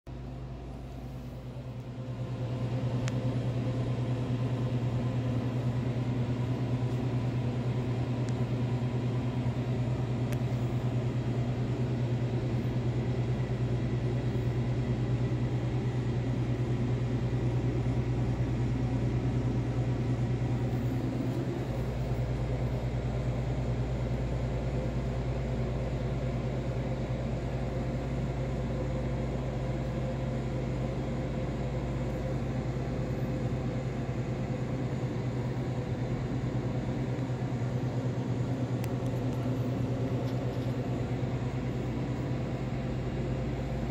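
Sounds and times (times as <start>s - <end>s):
refrigeration unit humming: 0.1s - 43.9s.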